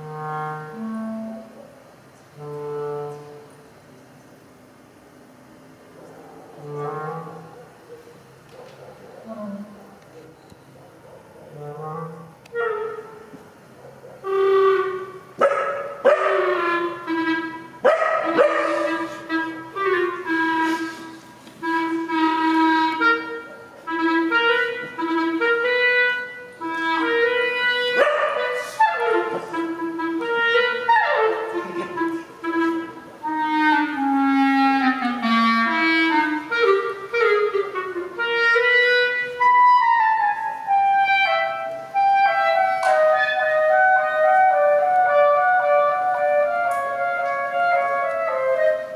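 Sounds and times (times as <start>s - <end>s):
clarinet playing: 0.0s - 4.0s, 6.2s - 7.6s, 11.5s - 13.6s, 14.2s - 48.9s.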